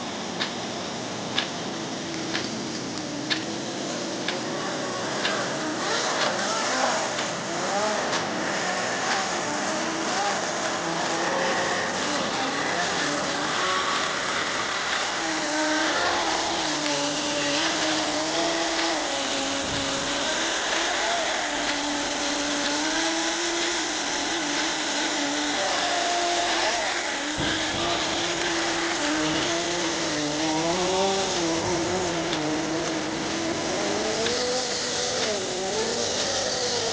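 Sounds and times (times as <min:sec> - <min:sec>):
model engine running at high revs: 0:00.0 - 0:36.9.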